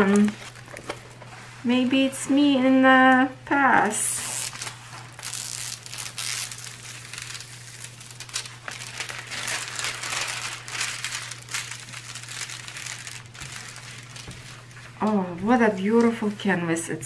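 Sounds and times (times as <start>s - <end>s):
plastic film crinkling: 0.0s - 1.5s, 3.9s - 16.6s.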